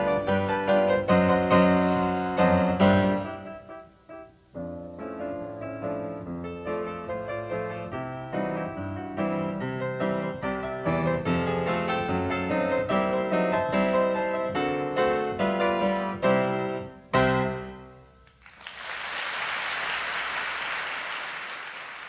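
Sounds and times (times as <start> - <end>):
solo piano music: 0.0 - 18.2.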